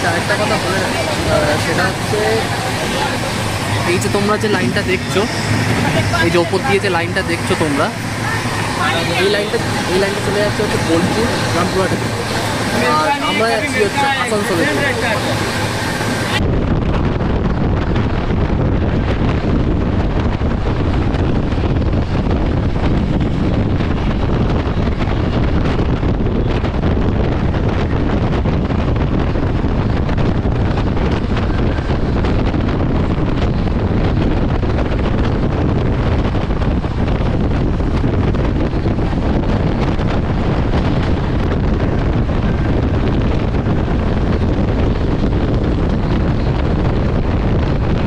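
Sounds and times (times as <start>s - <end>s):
moving passenger train: 0.0s - 48.0s
wind rushing over microphone: 0.0s - 48.0s.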